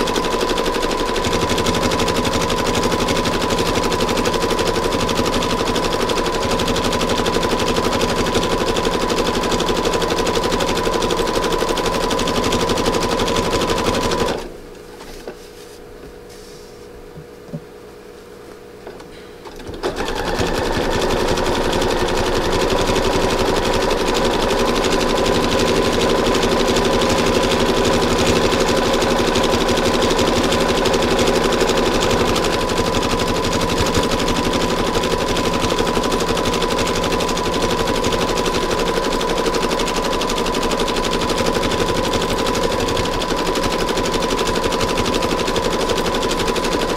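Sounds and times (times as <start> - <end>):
sewing machine running fast: 0.0 - 14.5, 19.6 - 46.9.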